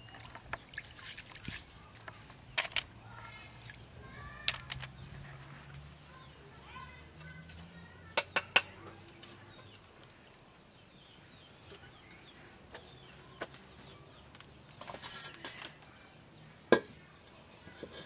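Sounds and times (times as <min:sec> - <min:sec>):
faint chicken and bird calls: 0:00.0 - 0:18.0.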